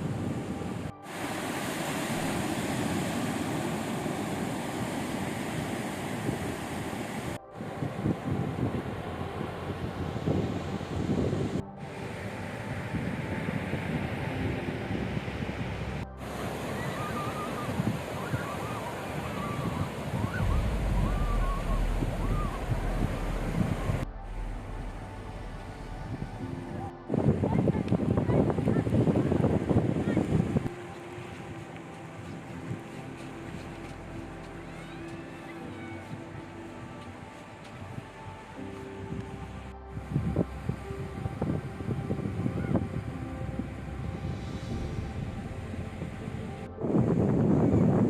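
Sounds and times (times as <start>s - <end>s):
ocean surf washing onto beach: 0.0s - 39.4s
wind on microphone: 0.0s - 48.0s.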